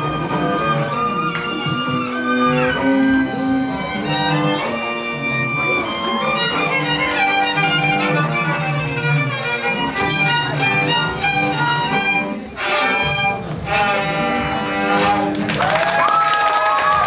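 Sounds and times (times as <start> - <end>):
violins and cello playing: 0.0 - 15.4.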